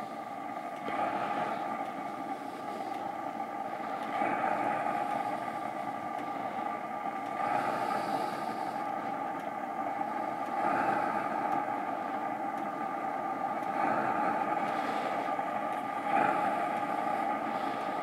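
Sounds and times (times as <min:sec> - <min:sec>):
heater fan rushing whir: 0:00.0 - 0:18.0.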